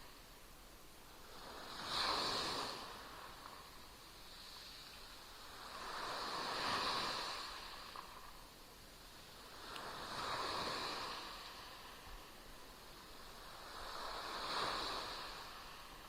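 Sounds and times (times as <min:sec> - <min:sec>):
small waves lapping on shore: 0:00.0 - 0:16.0.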